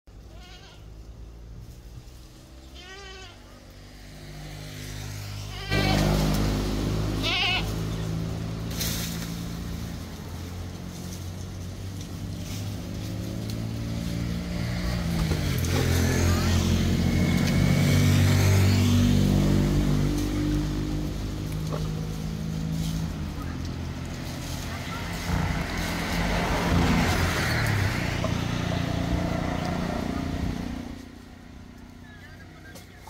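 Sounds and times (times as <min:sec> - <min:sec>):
vehicle engine running: 0:00.4 - 0:33.0.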